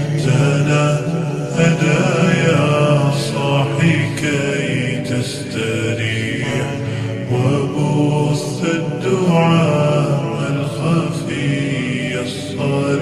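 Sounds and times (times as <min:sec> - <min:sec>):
chanted devotional song: 0:00.0 - 0:13.0.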